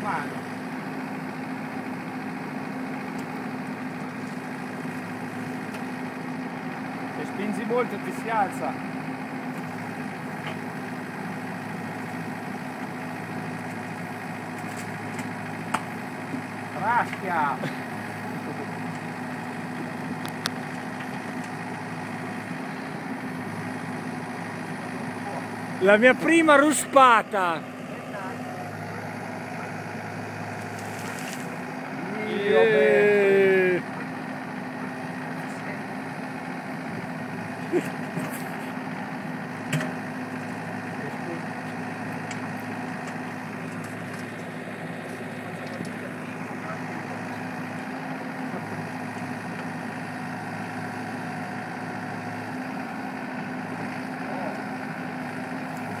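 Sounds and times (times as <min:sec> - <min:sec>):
diesel engine running: 0:00.0 - 0:56.0
excavator bucket working ground: 0:00.0 - 0:56.0.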